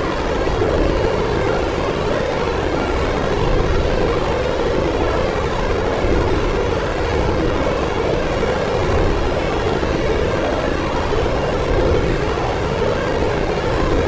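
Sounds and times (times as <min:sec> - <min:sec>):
dark ambient drone: 0:00.0 - 0:14.0.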